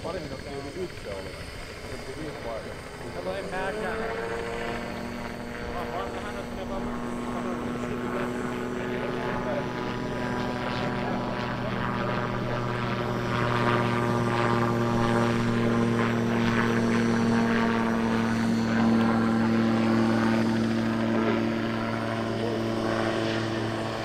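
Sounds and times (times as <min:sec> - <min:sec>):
autogyro engine and propeller drone: 0:00.0 - 0:24.0.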